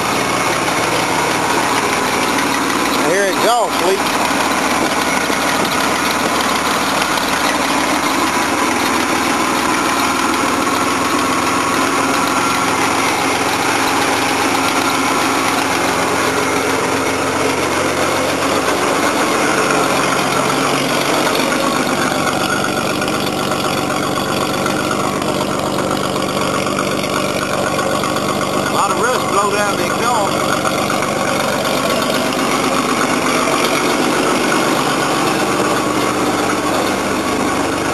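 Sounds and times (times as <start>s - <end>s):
pickup truck engine idling: 0.0s - 37.9s.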